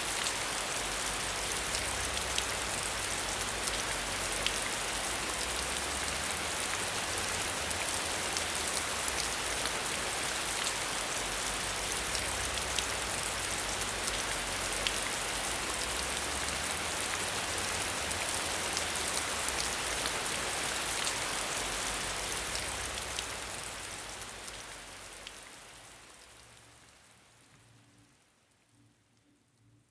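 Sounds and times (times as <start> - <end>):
steady rain falling: 0.0 - 29.7.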